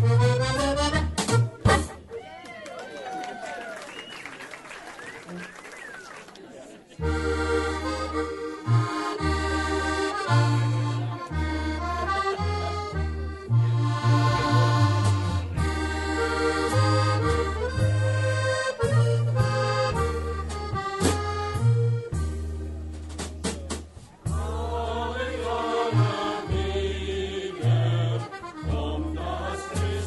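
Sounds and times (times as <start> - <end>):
accordion playing lively tune: 0.0 - 2.1, 7.0 - 23.3, 24.3 - 30.0
low bass notes: 0.0 - 2.1, 7.0 - 30.0
band playing: 0.0 - 2.2, 7.0 - 30.0.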